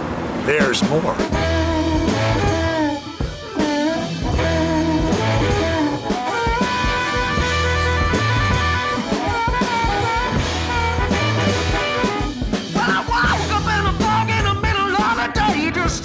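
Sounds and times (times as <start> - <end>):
rock music with drums and guitar: 0.6 - 16.0.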